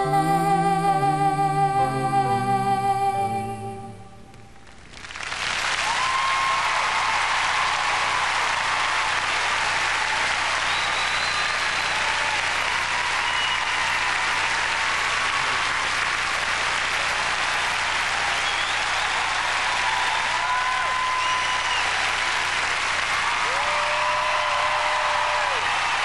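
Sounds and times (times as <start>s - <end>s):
crowd applauding: 4.6s - 26.0s.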